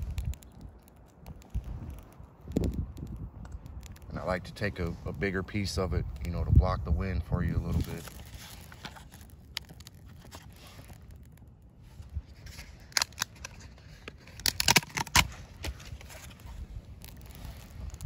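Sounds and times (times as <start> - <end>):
kindling clicking and snapping: 0.0 - 4.8, 7.9 - 18.0.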